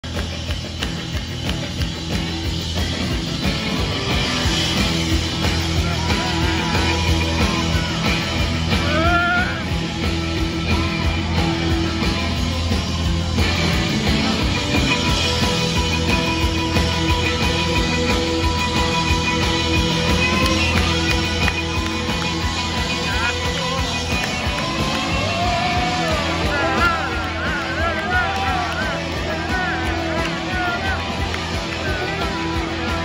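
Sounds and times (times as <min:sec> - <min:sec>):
post-punk band playing live: 0:00.0 - 0:33.0.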